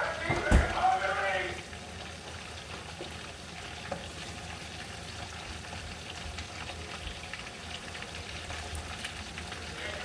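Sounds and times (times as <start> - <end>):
food sizzling in a pan: 0.8 - 10.0.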